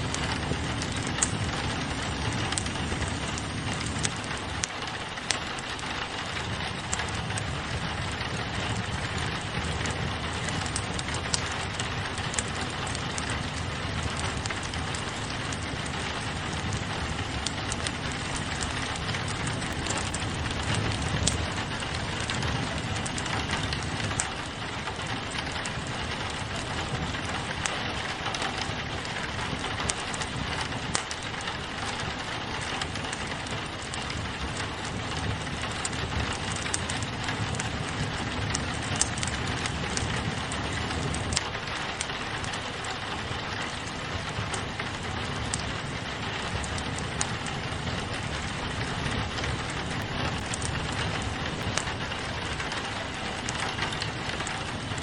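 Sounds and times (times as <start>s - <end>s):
rain pattering on a window: 0.0s - 55.0s
wood fire crackling: 0.0s - 55.0s.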